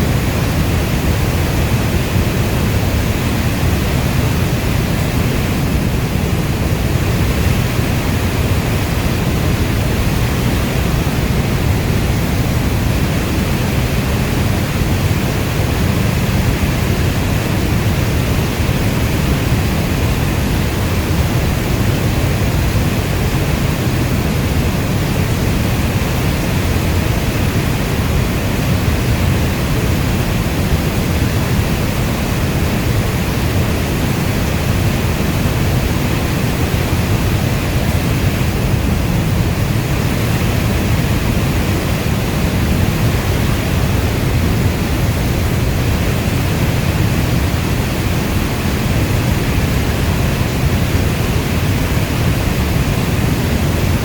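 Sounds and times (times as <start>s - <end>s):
heavy rainfall hiss: 0.0s - 54.0s.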